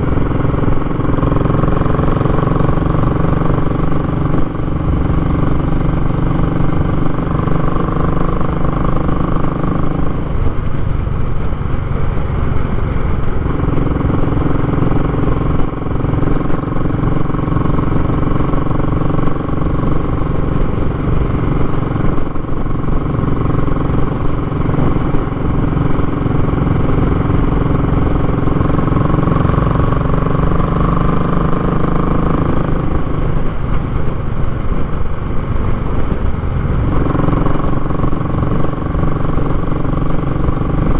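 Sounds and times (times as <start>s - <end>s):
motorcycle engine riding along: 0.0s - 40.9s.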